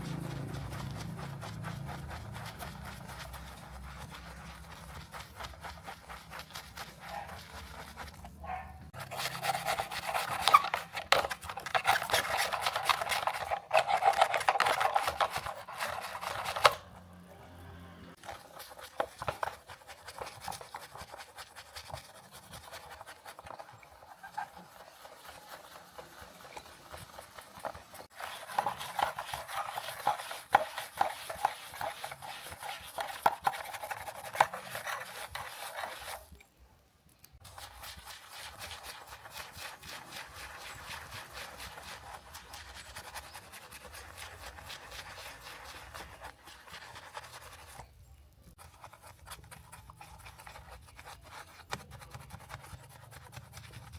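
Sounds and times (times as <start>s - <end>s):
scrubbing strokes on model car: 0.0s - 17.0s, 18.1s - 36.4s, 37.4s - 53.9s.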